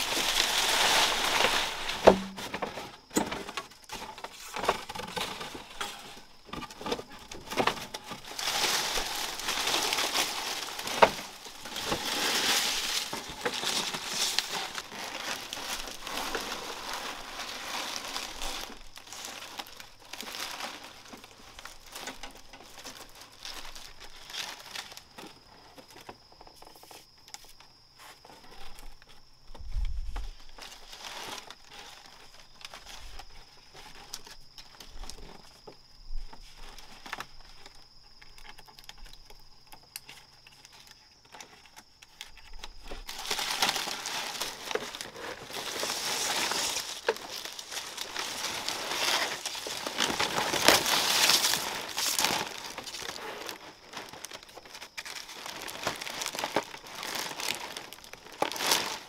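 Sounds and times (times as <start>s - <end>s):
plant material rustling and crackling: 0.0s - 59.0s.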